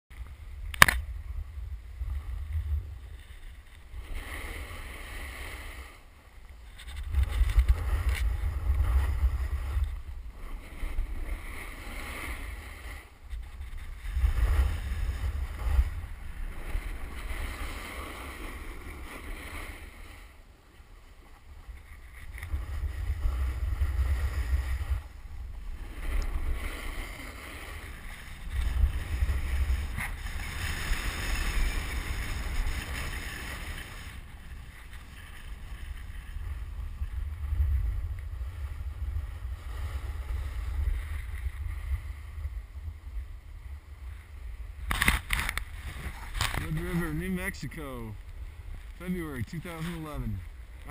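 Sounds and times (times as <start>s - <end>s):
wind rumbling on microphone: 0.1s - 50.9s
skis sliding over snow: 1.3s - 50.9s.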